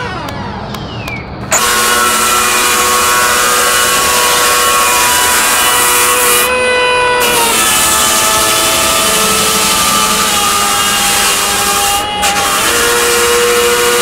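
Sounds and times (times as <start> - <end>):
power tool motor whining: 0.0 - 0.7, 1.5 - 14.0
power tool hissing: 1.5 - 14.0.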